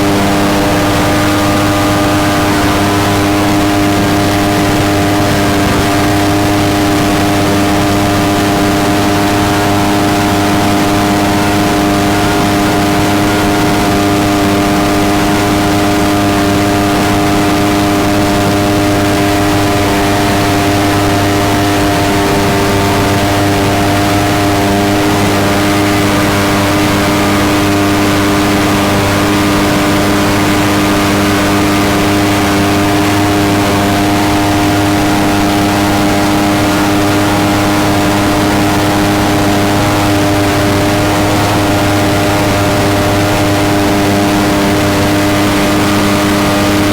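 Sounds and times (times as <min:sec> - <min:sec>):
boat engine running high: 0:00.0 - 0:46.9
rushing water and wind: 0:00.0 - 0:46.9.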